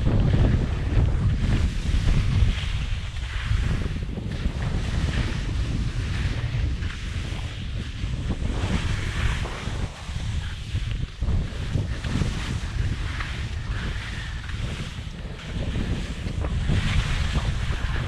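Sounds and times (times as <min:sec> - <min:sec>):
skis scraping over snow: 0:00.0 - 0:18.0
wind buffeting microphone: 0:00.0 - 0:18.0.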